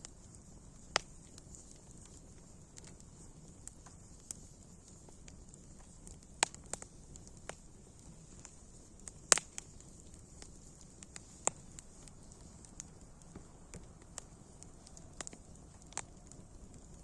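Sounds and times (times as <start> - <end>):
faint hiss: 0.0 - 17.0
wood fire crackling and popping: 0.0 - 17.0.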